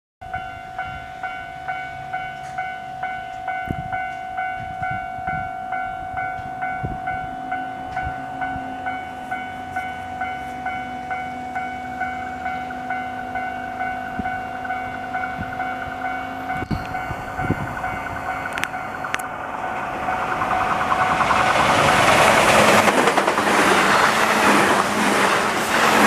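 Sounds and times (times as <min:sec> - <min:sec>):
level-crossing alarm bell: 0:00.2 - 0:22.9.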